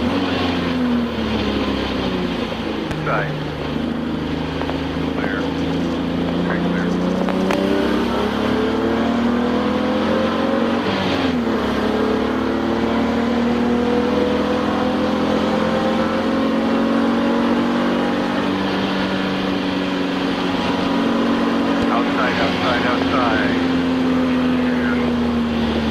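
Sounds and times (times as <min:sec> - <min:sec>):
race car engine revving: 0:00.0 - 0:25.9.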